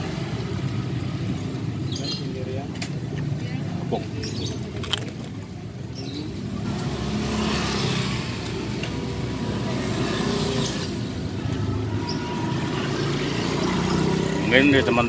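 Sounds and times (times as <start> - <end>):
vehicle engines passing: 0.0 - 15.0.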